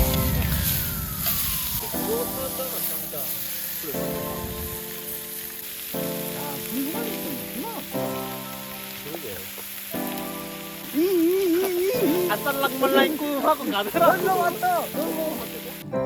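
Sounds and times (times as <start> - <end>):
background music with chords: 0.0 - 16.0
sizzling hiss: 0.0 - 16.0.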